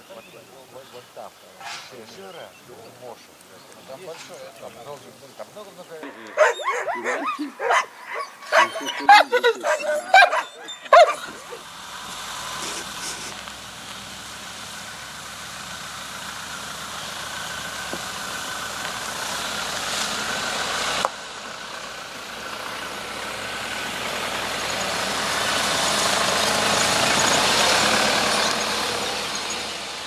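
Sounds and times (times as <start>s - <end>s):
vehicles driving on dirt track: 0.0s - 30.0s.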